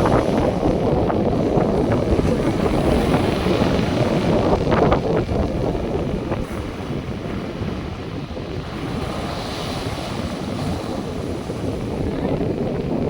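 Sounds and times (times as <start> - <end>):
sea surf: 0.0 - 13.0
wind rumbling on microphone: 0.0 - 13.0.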